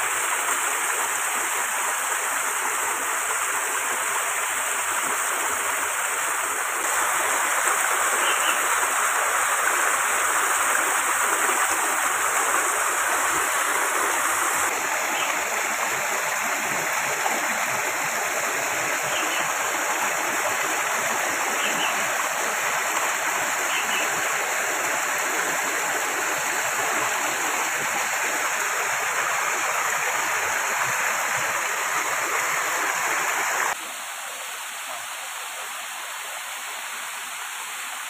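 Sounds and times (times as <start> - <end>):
creek water flowing: 0.0 - 38.0.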